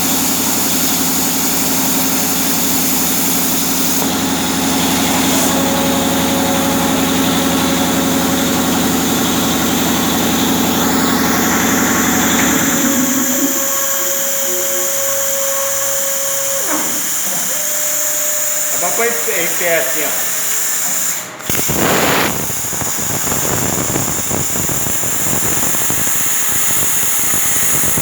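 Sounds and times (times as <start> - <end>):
plasma cutter hum and hiss: 0.0 - 28.0.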